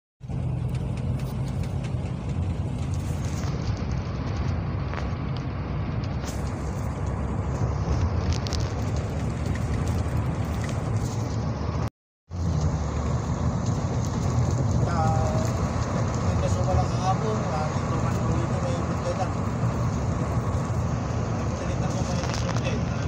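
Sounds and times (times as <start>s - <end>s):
vehicle engine hum and road noise: 0.2s - 23.0s.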